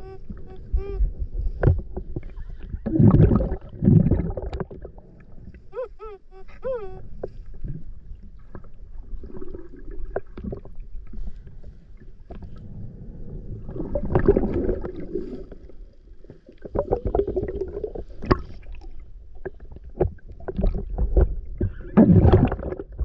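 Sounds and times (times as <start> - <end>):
underwater gurgling and sloshing: 0.0 - 23.0.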